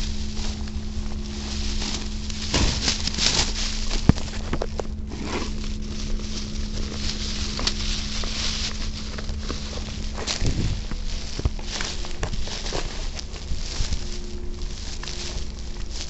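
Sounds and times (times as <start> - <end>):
plastic bags rustling: 0.0 - 16.0
steady low hum: 0.0 - 16.0
footsteps on pavement: 2.0 - 16.0.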